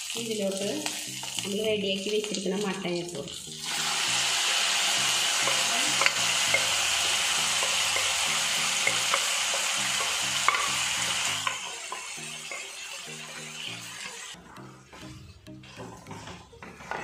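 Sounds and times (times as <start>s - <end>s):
meat sizzling in hot oil: 0.0s - 14.4s.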